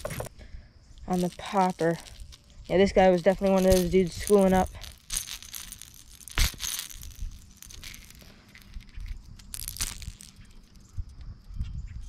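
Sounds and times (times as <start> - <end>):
lure and hooks clicking: 1.0 - 11.3.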